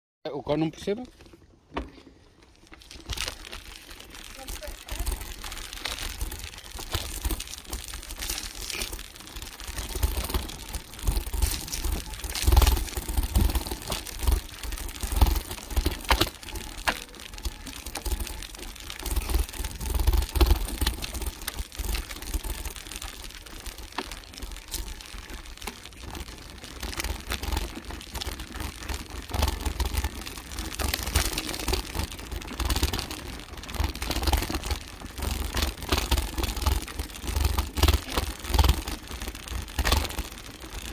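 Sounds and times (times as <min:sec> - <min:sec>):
tyres crackling over leaves: 0:00.4 - 0:40.9
bike clattering over bumps: 0:01.1 - 0:40.9.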